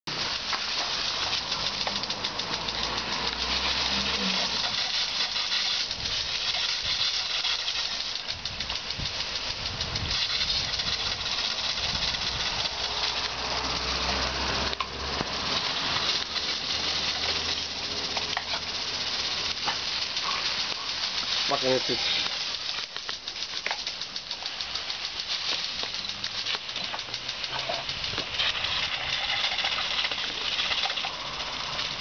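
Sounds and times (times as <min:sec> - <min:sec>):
sprinkler spraying water: 0:00.1 - 0:32.0.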